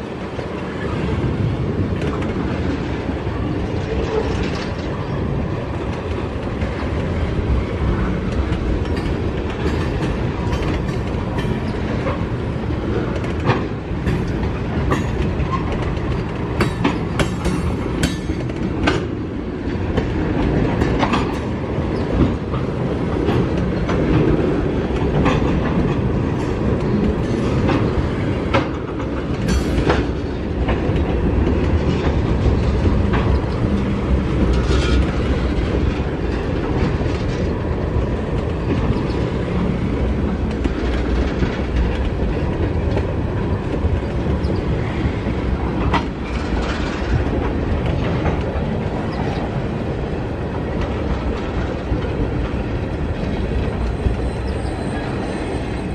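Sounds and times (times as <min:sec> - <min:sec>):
clickety-clack over rail joints: 0:00.0 - 0:55.9
train wheels rumbling: 0:00.0 - 0:55.9.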